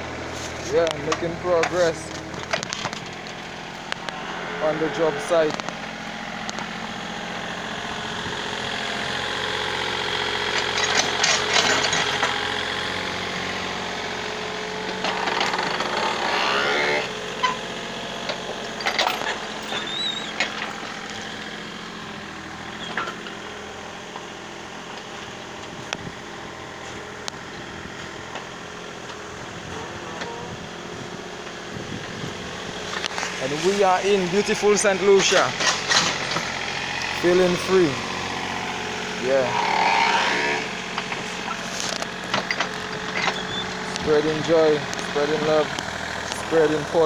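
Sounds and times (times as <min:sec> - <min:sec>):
excavator engine running: 0:00.0 - 0:47.0.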